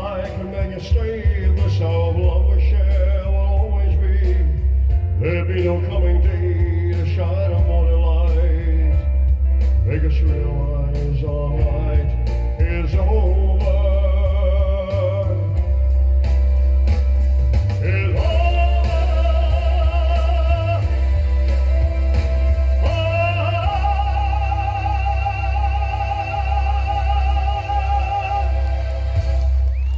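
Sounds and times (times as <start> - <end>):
man singing with vibrato: 0.0 - 9.1, 9.8 - 15.7, 17.8 - 29.5
backing track with heavy bass: 0.0 - 29.9.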